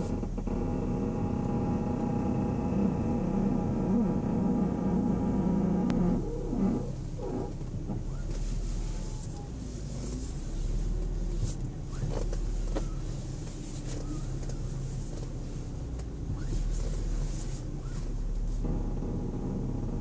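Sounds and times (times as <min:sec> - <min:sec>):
car engine running: 0:00.0 - 0:20.0
creaks and clicks from car wheel: 0:00.0 - 0:20.0.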